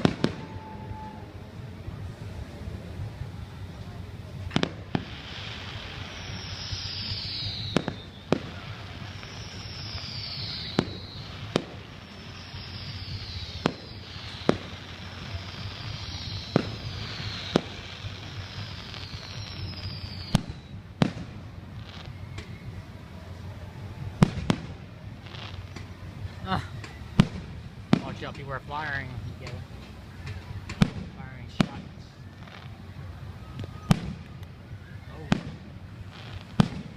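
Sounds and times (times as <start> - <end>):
firework shells whistling: 0.0 - 1.7, 4.4 - 36.9
firework bangs: 0.0 - 36.9
steady low rumble: 0.0 - 36.9.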